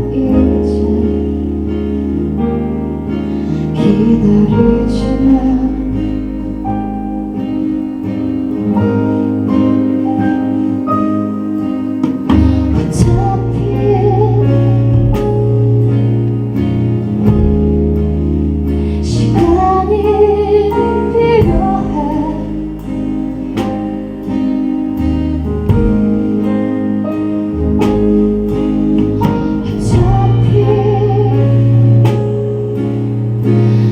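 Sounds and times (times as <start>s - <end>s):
bass and drums: 0.0s - 33.9s
acoustic guitar strumming: 1.3s - 33.9s.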